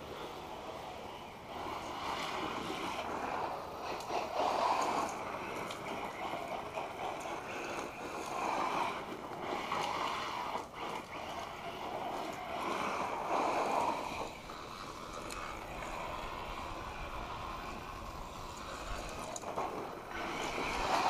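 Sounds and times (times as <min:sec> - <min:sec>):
electric motor rushing: 0:00.0 - 0:21.0
tyres scrabbling on gravel: 0:00.1 - 0:21.0.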